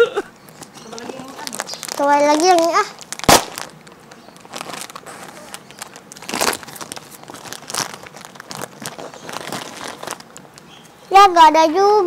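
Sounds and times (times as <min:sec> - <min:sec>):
plastic snack packet crinkling: 0:00.5 - 0:10.6.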